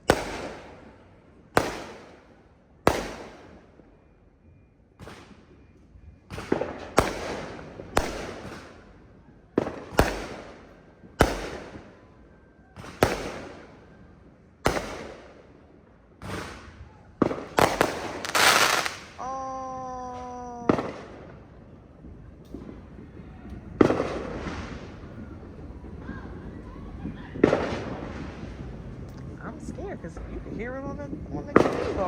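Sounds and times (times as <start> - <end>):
fireworks bangs echoing: 0.0 - 3.9, 5.0 - 5.7, 6.3 - 19.3, 20.2 - 32.0.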